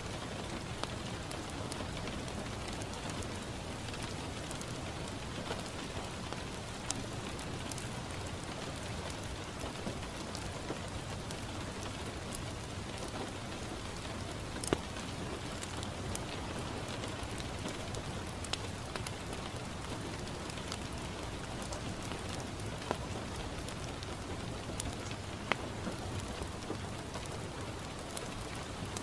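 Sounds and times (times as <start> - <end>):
rain pattering on window glass: 0.0 - 29.0
wood fire crackling pops: 0.3 - 29.0.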